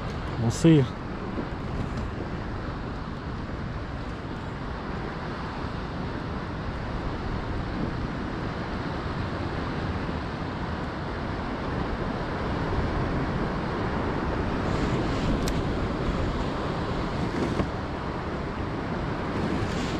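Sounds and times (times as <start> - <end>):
rushing wind: 0.0 - 19.9
water rushing: 0.0 - 19.9.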